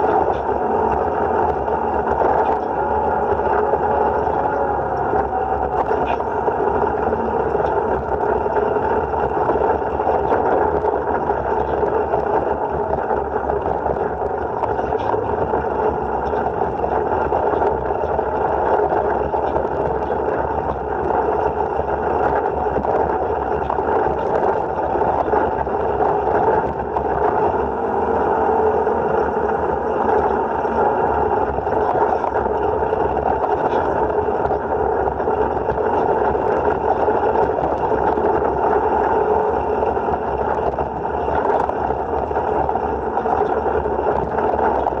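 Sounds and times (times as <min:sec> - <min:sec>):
utility vehicle engine running: 0:00.0 - 0:45.0
wind noise: 0:00.0 - 0:45.0.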